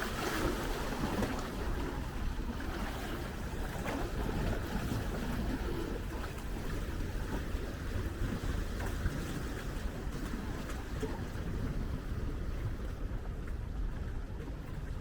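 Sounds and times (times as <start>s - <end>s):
outdoor seaside noise: 0.0s - 15.0s
wind rumbling on microphone: 0.0s - 15.0s.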